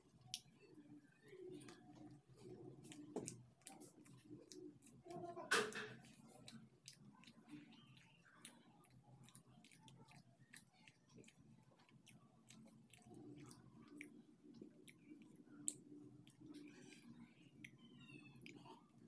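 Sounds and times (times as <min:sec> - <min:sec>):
faint chewing with mouth clicks: 0:00.0 - 0:19.0.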